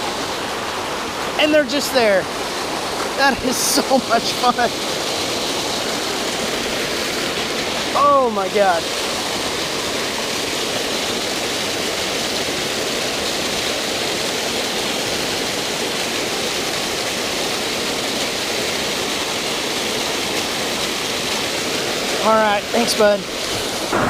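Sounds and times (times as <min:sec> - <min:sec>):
water rushing over spillway: 0:00.0 - 0:24.0.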